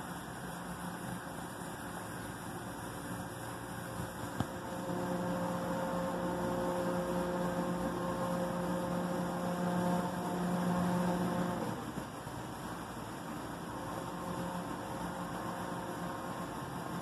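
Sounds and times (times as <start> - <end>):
electric motor hum: 2.9 - 17.0.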